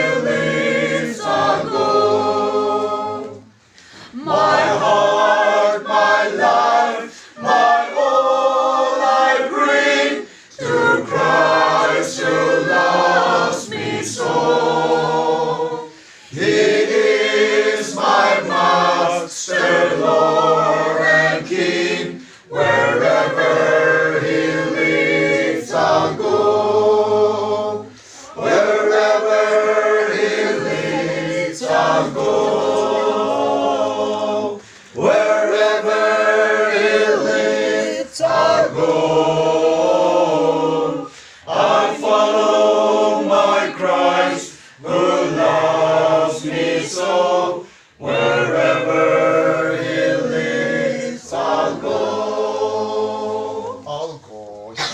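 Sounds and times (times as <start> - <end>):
group singing a hymn unaccompanied: 0.0 - 54.9.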